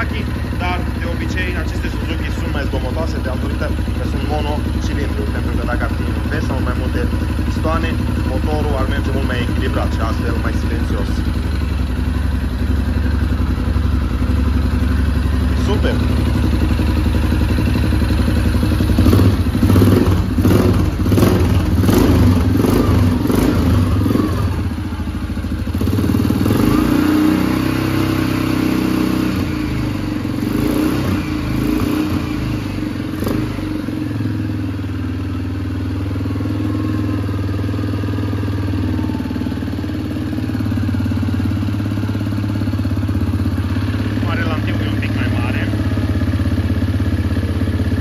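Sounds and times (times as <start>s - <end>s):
engine idling: 0.0s - 48.0s.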